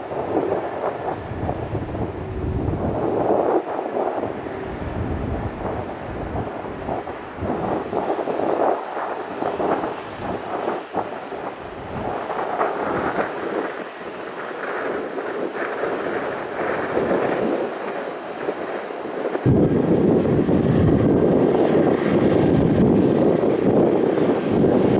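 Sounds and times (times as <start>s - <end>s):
jet engine rushing: 0.0s - 24.9s
wind buffeting microphone: 0.0s - 24.9s.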